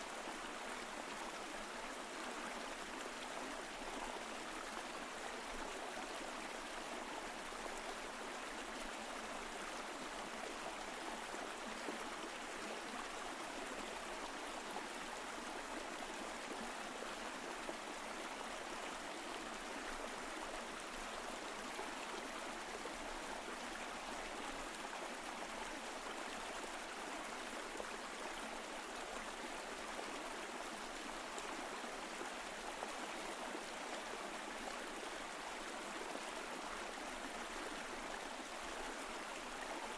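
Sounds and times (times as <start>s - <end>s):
stream flowing over rocks: 0.1s - 39.9s.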